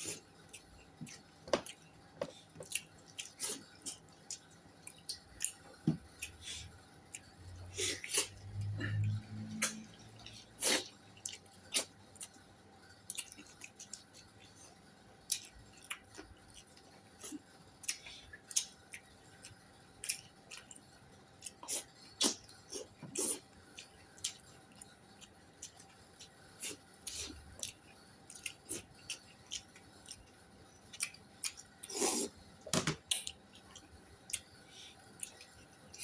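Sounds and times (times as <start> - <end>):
chewing and mouth sounds: 0.0 - 36.0.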